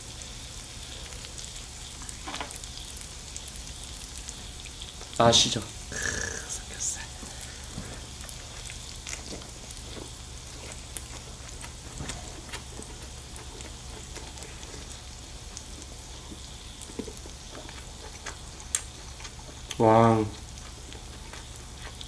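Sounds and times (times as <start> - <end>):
meat sizzling on a grill pan: 0.0 - 22.0.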